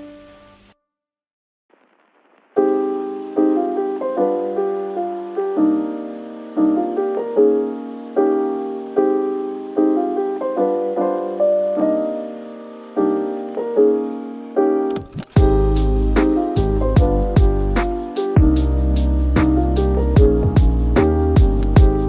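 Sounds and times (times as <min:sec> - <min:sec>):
mellow keyboard piece: 0:02.6 - 0:22.0.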